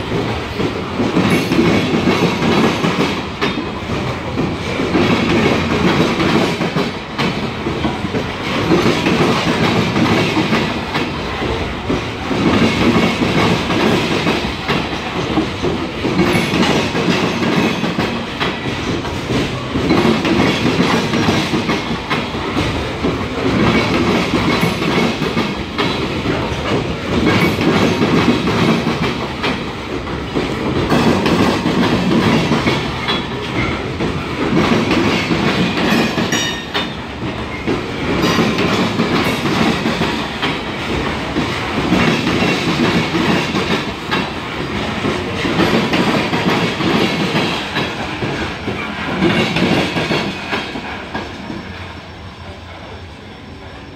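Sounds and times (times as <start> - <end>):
wheels clacking over rail joints: 0.0 - 51.7
freight train cars rolling past: 0.0 - 53.9.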